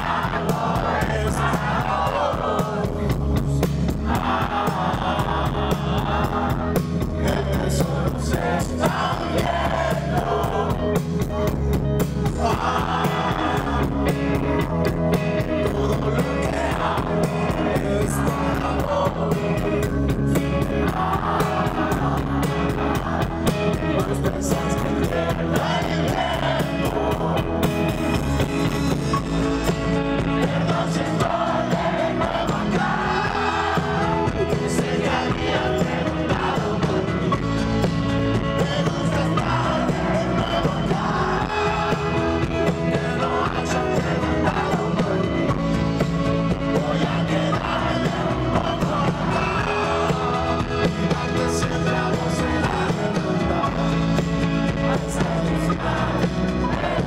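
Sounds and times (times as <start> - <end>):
person singing: 0.0 - 27.7, 30.2 - 57.0
bass guitar: 0.0 - 57.0
drum kit: 0.0 - 57.0
electric guitars: 0.0 - 57.0.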